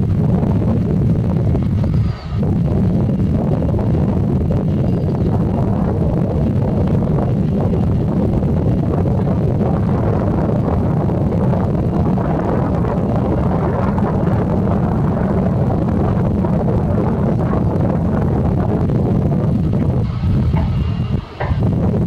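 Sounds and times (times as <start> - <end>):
jet engines low rumble: 0.0 - 22.0
wind buffeting microphone: 0.0 - 22.0.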